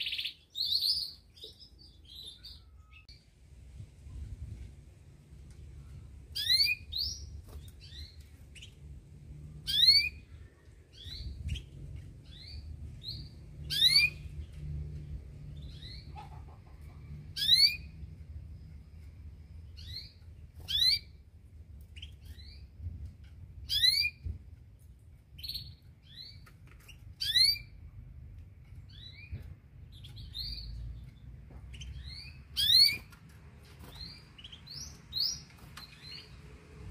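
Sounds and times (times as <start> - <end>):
canary chirping: 0.0 - 3.2, 6.2 - 24.4, 25.3 - 36.8
low steady rumble: 3.1 - 32.6.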